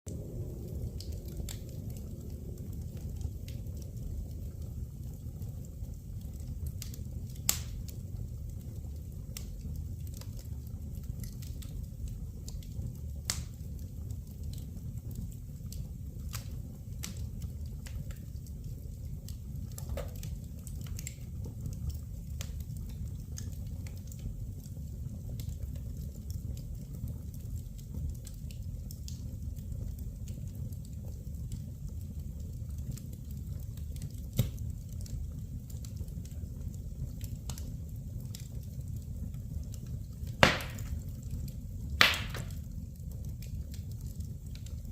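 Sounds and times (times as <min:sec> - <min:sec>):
low steady rumble: 0:00.1 - 0:44.9
wood fire crackling and popping: 0:00.1 - 0:44.9.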